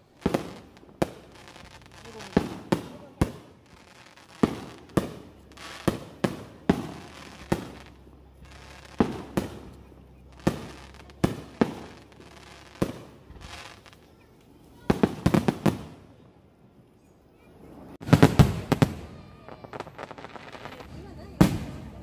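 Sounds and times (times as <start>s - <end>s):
fireworks bursting with echoing bangs: 0.0s - 16.3s, 18.0s - 22.0s.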